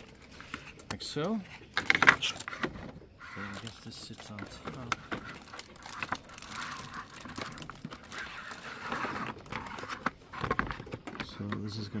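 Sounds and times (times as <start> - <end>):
plastic rustling and crinkling: 0.0 - 12.0.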